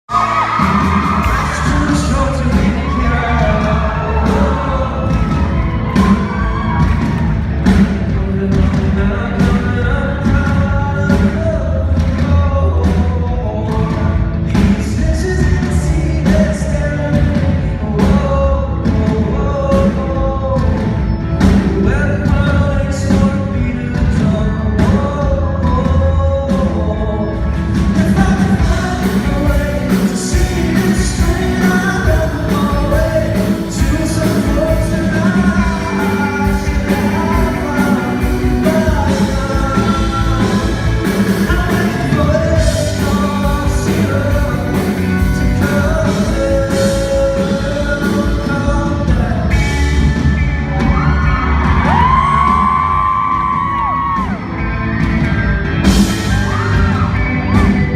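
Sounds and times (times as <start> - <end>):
man singing lead vocal: 0.0 - 54.4, 55.8 - 57.9
rock band playing: 0.0 - 57.9.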